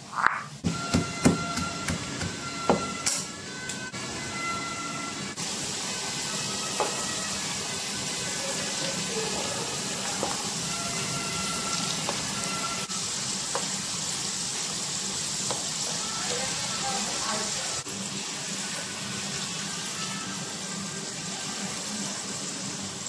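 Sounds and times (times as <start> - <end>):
potatoes sizzling in oil: 0.1 - 23.0.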